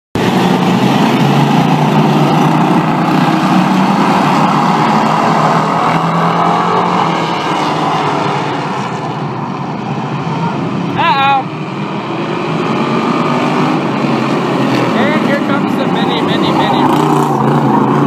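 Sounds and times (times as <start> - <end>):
race car engines passing: 0.2 - 18.0.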